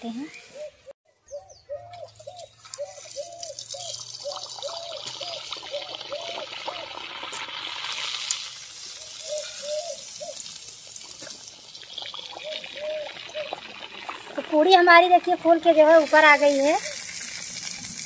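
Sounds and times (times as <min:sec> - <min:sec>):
oil spattering crackle: 0:02.3 - 0:18.0
oil sizzling: 0:02.6 - 0:18.0.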